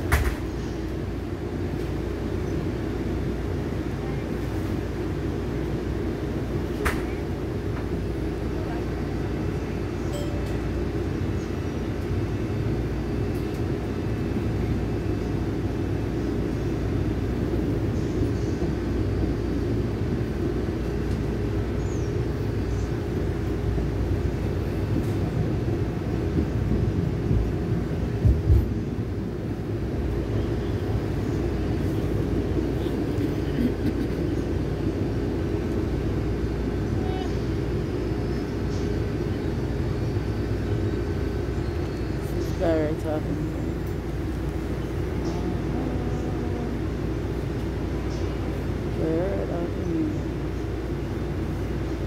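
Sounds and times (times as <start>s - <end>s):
vehicle rumble from inside: 0.0s - 52.0s.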